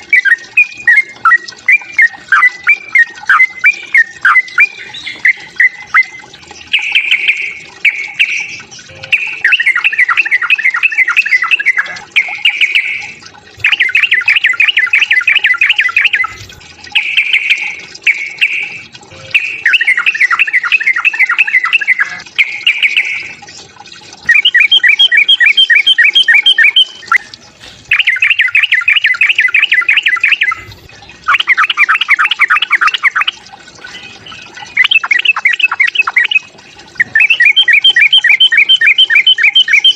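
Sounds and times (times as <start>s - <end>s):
bulbul rapid chattering song: 0.0s - 39.9s.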